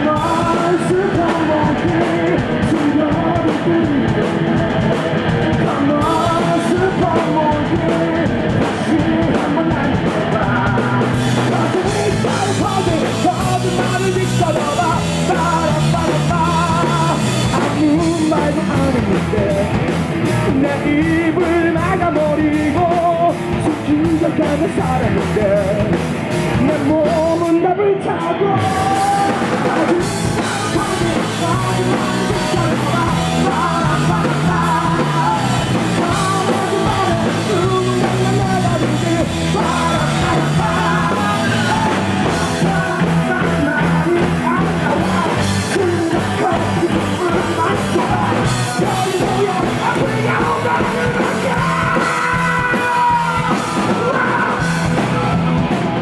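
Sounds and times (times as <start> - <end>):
drum kit: 0.0 - 56.0
electric guitars: 0.0 - 56.0
person singing: 0.0 - 56.0.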